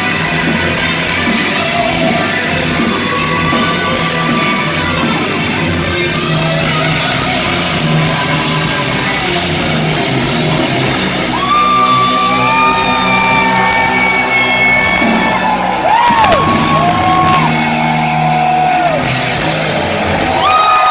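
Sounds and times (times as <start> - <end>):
heavy metal band playing: 0.0 - 20.9.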